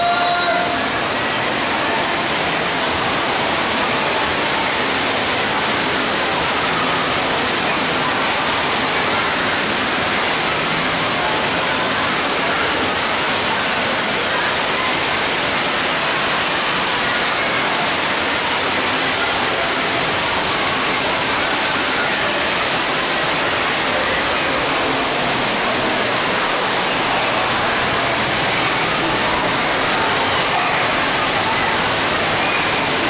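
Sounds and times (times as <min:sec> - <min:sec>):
water splashing down waterfall: 0:00.0 - 0:33.0.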